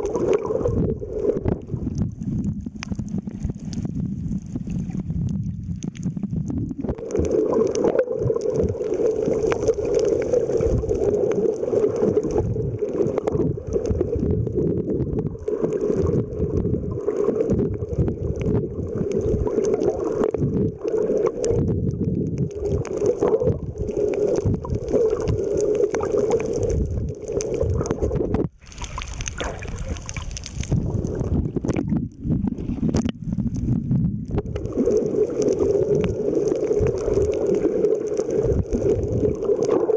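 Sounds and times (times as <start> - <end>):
muffled underwater water rumble: 0.0 - 39.9.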